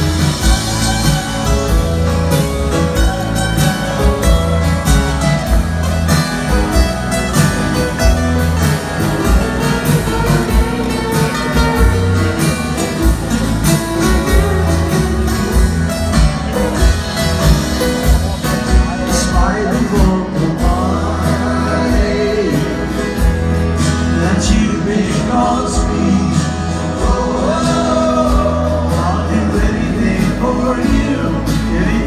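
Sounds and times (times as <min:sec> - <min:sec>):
bass guitar: 0:00.0 - 0:32.0
live band playing slow ballad: 0:00.0 - 0:32.0
strummed acoustic guitar: 0:00.0 - 0:32.0.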